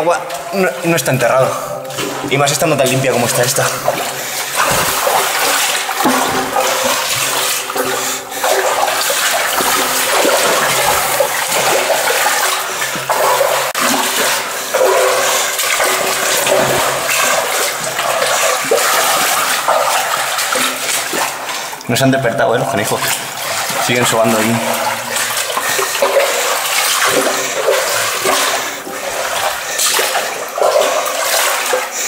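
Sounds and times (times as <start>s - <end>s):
feet wading through water: 0.0s - 32.0s.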